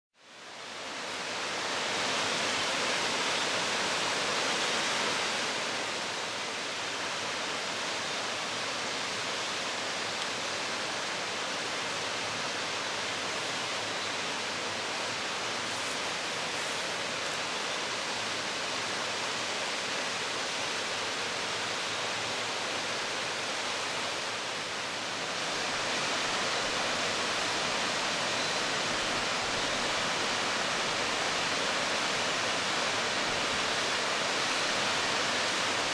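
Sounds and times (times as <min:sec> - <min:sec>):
waterfall rushing: 0:00.3 - 0:35.9.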